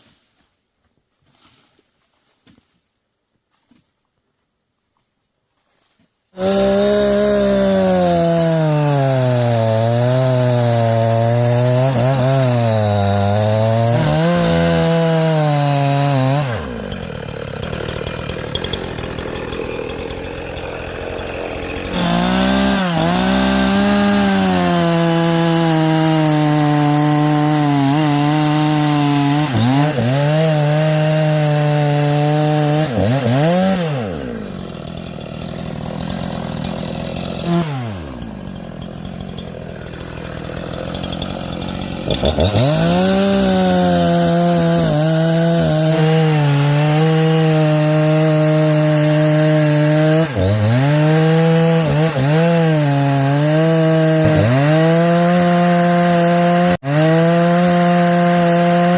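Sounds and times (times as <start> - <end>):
chainsaw cutting log: 6.4 - 58.9
rough grinding: 6.4 - 58.9.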